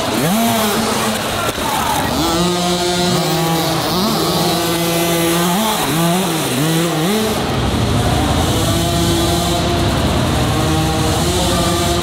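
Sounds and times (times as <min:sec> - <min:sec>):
dirt bike engines buzzing: 0:00.0 - 0:12.0.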